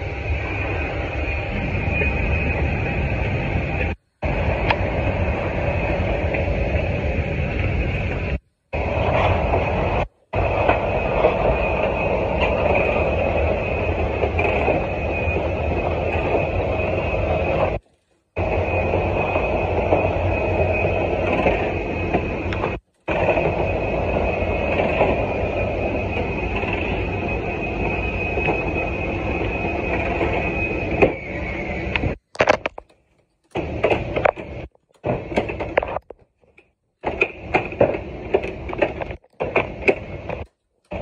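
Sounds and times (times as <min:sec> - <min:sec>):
machinery drone with high whine: 0:00.0 - 0:41.0.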